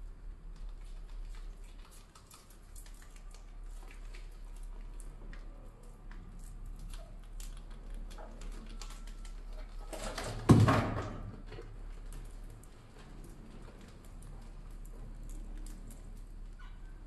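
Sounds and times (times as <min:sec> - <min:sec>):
mice claws scratching and clicking: 0:00.0 - 0:10.4, 0:11.4 - 0:17.0.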